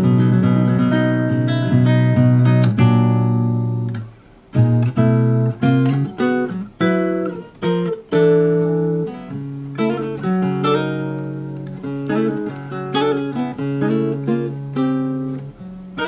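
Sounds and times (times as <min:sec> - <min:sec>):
classical guitar chords: 0:00.0 - 0:16.0.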